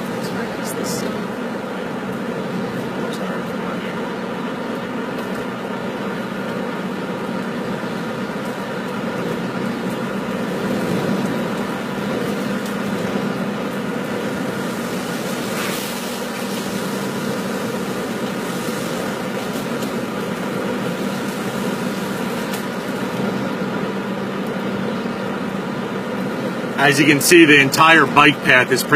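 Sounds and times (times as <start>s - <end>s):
car engine and road noise: 0.0s - 28.9s.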